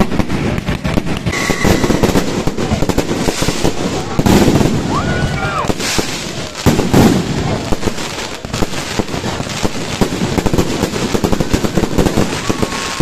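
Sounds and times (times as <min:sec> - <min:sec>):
fireworks bangs and crackling pops: 0:00.0 - 0:13.0.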